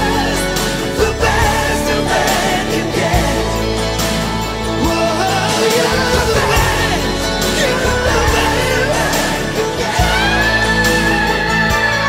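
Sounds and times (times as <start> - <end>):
band playing: 0.0 - 12.0
person singing: 0.0 - 12.0.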